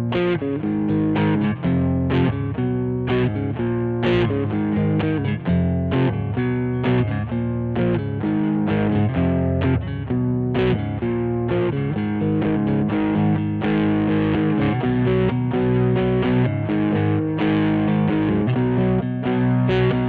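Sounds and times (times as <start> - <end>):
electric guitar chords strummed: 0.0 - 20.0.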